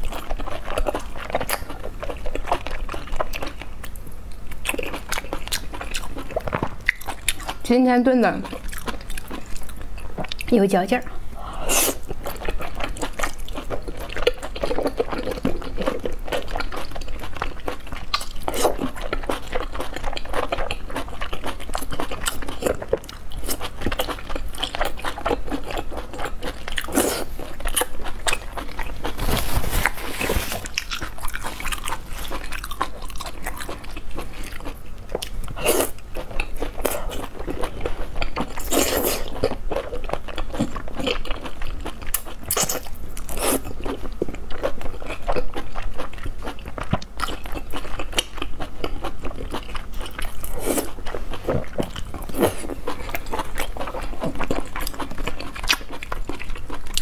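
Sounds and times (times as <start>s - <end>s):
chewing with wet mouth smacks: 0.0s - 10.6s, 11.9s - 29.2s, 30.6s - 57.0s.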